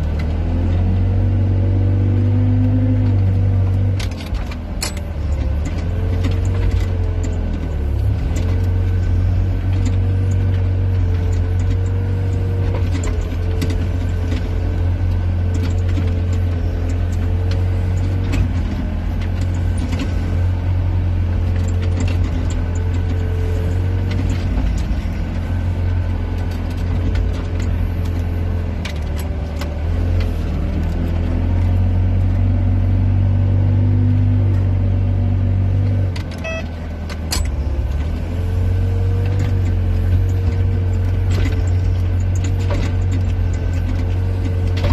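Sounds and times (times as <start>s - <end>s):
excavator diesel engine: 0.0s - 44.9s.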